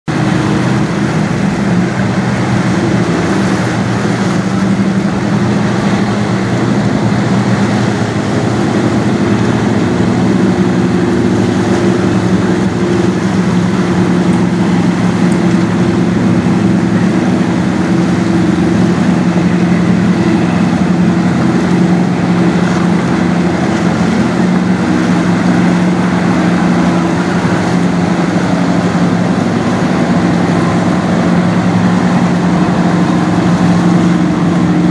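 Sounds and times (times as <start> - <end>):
water washing along hull: 0.0 - 34.9
ship engines droning: 0.1 - 34.9.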